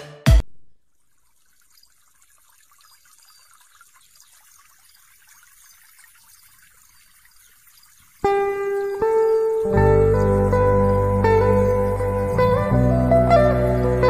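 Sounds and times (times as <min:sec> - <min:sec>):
river water trickling underwater: 0:00.8 - 0:14.0.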